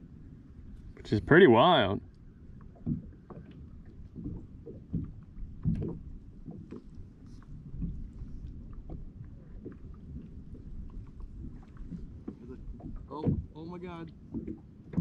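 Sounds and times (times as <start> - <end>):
water lapping against kayak hull: 0.0 - 15.0.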